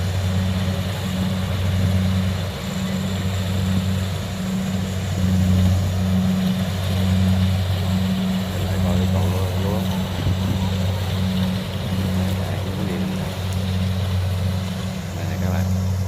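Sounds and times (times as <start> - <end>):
combine harvester diesel engine: 0.0 - 16.0.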